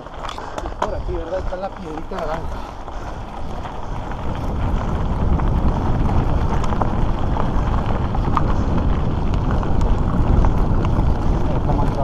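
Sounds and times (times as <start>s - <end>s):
bike rolling over gravel: 0.0s - 12.0s
stones and bike rattling: 0.0s - 12.0s
wind buffeting microphone: 0.0s - 12.0s.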